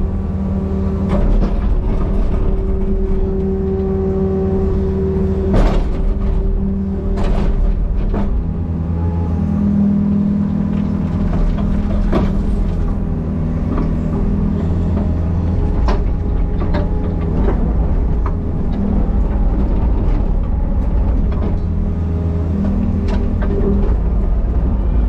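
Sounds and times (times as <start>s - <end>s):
diesel engine under load: 0.0s - 25.0s.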